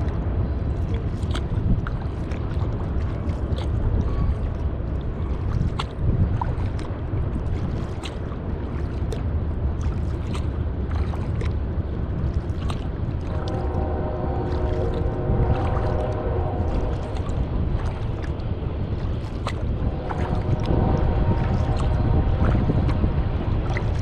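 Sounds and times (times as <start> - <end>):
paddle splashing in water: 0.0 - 24.0
wind on microphone: 0.0 - 24.0.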